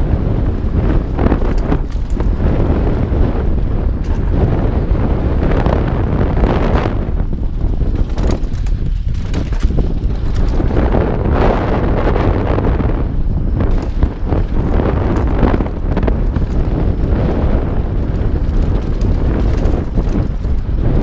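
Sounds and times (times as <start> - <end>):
bike rattling over bumps: 0.0 - 21.0
loud wind noise: 0.0 - 21.0
tyres on dirt trail: 0.0 - 21.0.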